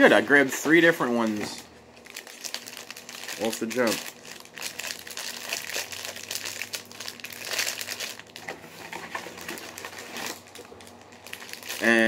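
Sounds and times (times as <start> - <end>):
plastic pouches crinkling: 0.8 - 12.0.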